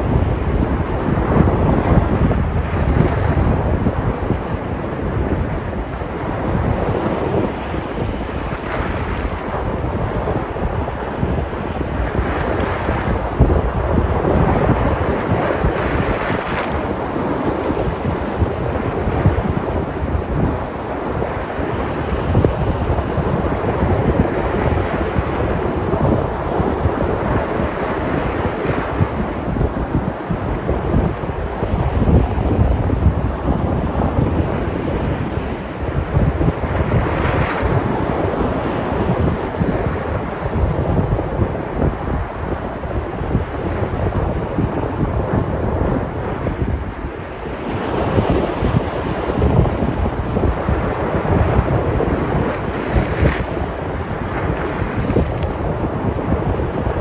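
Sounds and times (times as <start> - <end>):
sea surf washing onto shore: 0.0 - 57.0
wind buffeting microphone: 0.0 - 57.0.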